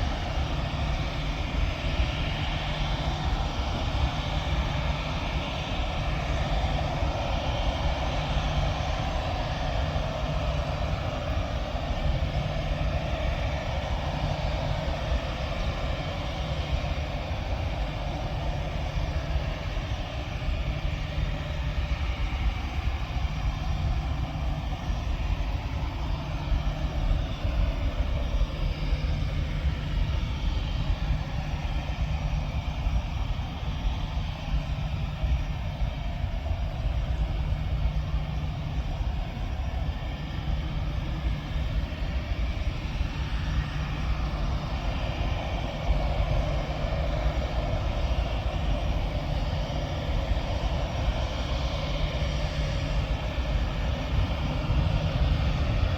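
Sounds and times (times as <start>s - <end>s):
airplane engines rumbling: 0.0s - 55.9s.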